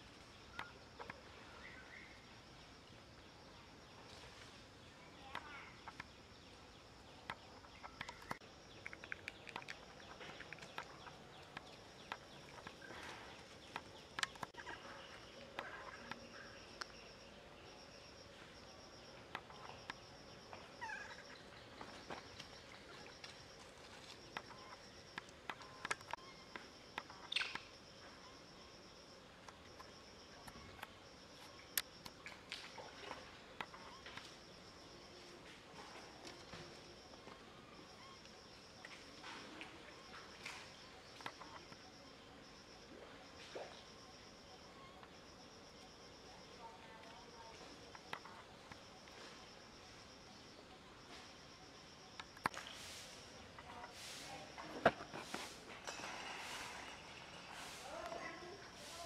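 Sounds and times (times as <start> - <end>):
insects buzzing: 0.0 - 59.0.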